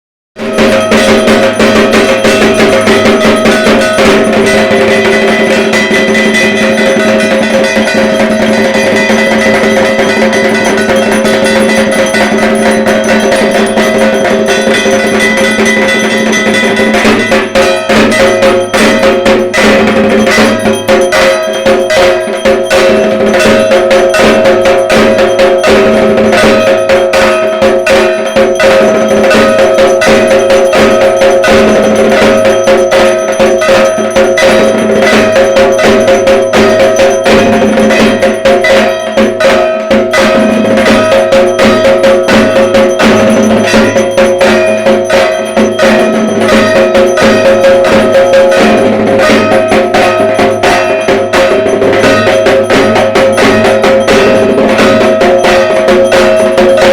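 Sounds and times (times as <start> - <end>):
drums beaten fast: 0.4 - 56.9
metallic ringing: 0.4 - 56.9.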